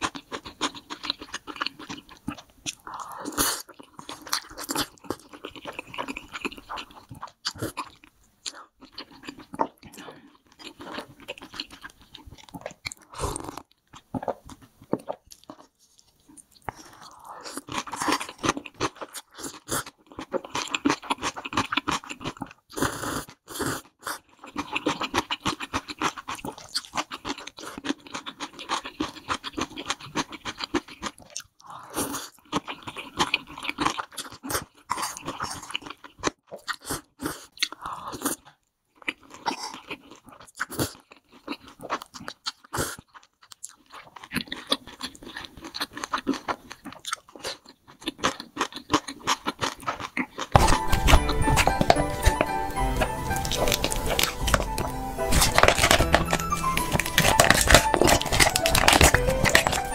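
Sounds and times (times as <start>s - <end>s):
person chewing and slurping noodles: 0.0s - 59.9s.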